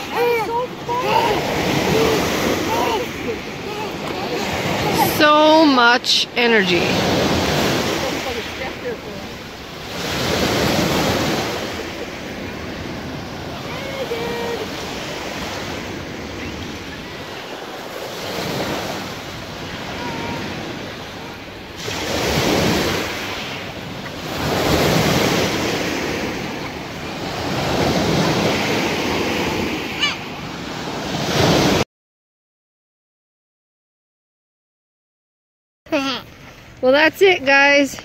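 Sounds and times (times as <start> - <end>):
waves washing on rocky shore: 0.0 - 31.8.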